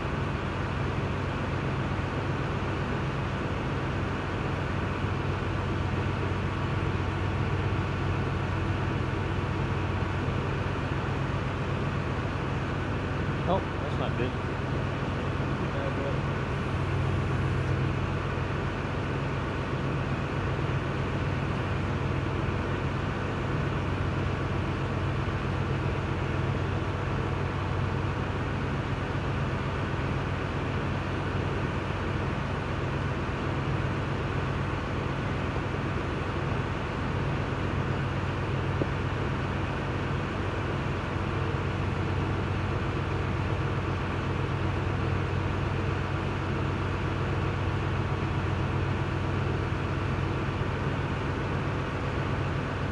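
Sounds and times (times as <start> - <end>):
steady low machine drone: 0.0 - 52.9.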